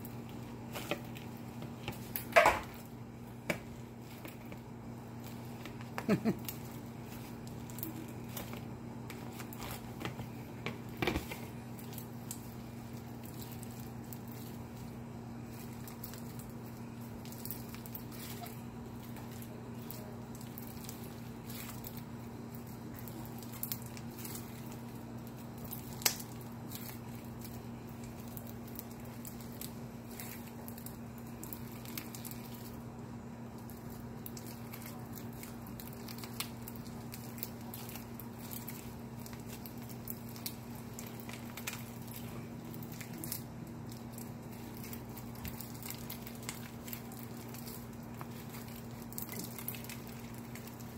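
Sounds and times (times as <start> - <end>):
slime crackling and popping: 0.0 - 50.9
steady low hum: 0.0 - 50.9.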